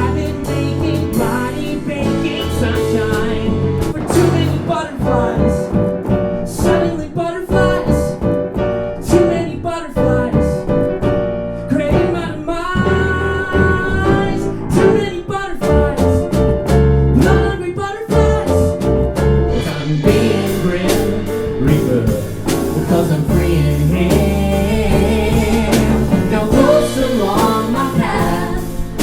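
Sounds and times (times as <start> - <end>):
live band playing: 0.0 - 29.0
repeated piano chords: 0.0 - 29.0.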